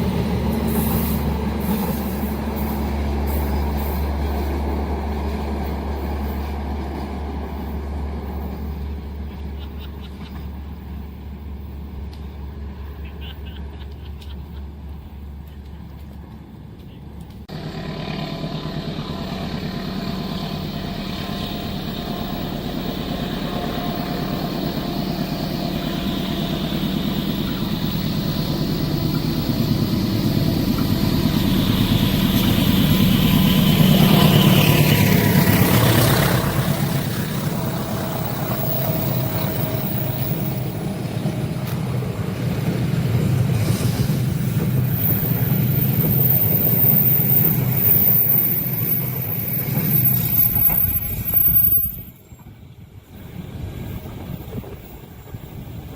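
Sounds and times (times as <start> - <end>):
train passing: 0.0 - 55.9.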